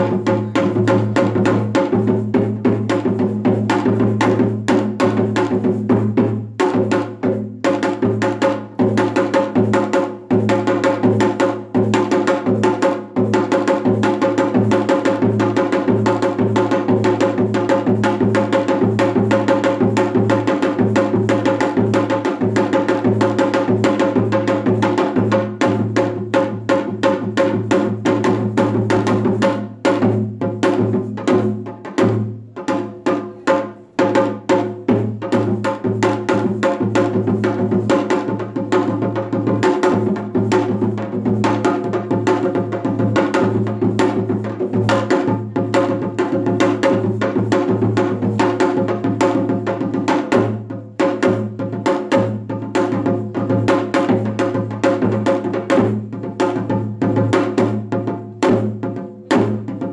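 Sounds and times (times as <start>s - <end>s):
hourglass drum rhythm: 0.0s - 59.9s.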